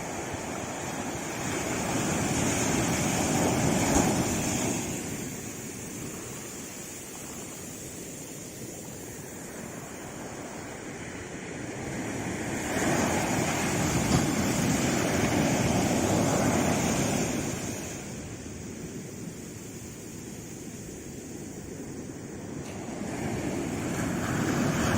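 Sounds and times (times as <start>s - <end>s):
sea waves on shore: 0.0s - 24.9s.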